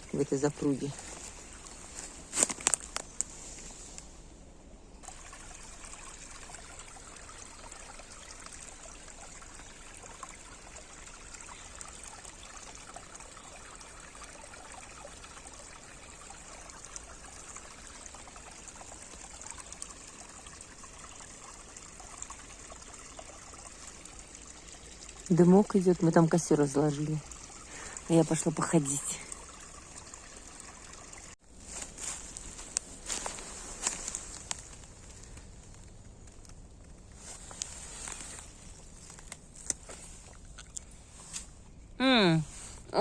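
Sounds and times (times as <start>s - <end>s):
water trickling over a dam: 0.0s - 43.0s.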